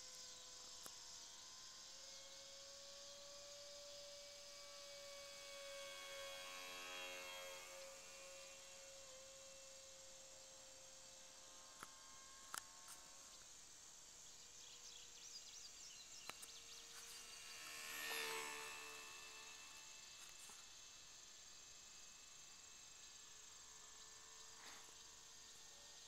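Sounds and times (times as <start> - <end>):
model plane motor whine: 0.0 - 26.0.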